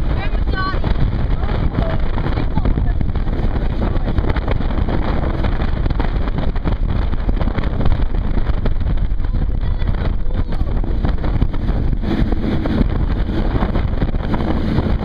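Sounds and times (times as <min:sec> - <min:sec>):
motorboat engine droning: 0:00.0 - 0:15.0
wind buffeting microphone: 0:00.0 - 0:15.0.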